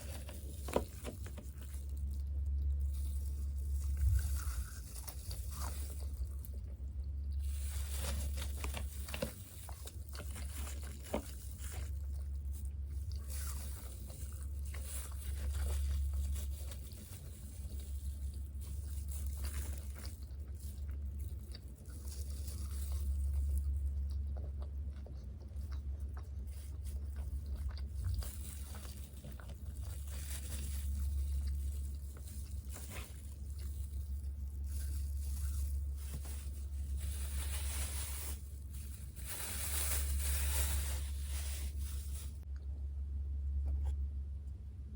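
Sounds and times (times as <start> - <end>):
chewing crispy fried food: 0.0 - 42.9
steady low hum: 0.0 - 44.9.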